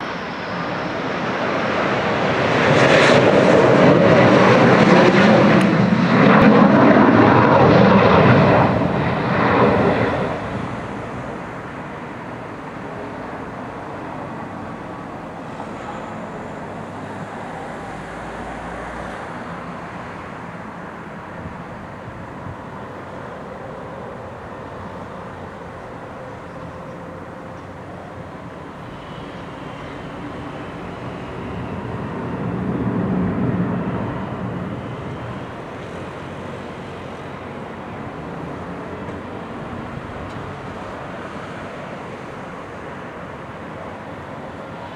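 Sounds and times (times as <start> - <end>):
jet engine noise: 0.0 - 44.9.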